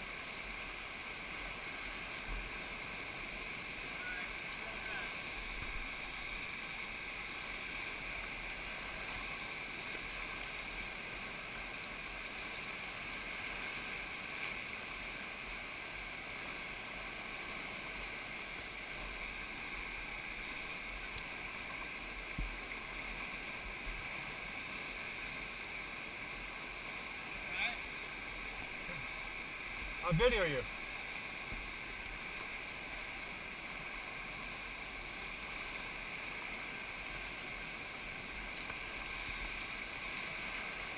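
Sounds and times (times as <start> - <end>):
whitewater rapid rushing: 0.0 - 40.9.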